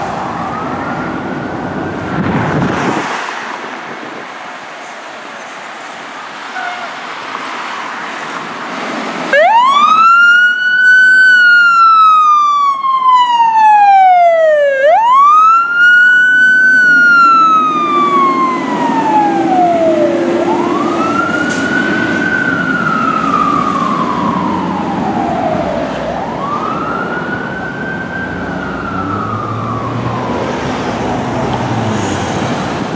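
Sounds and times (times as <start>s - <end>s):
fire engine siren wailing: 0.0s - 2.8s, 9.3s - 32.9s.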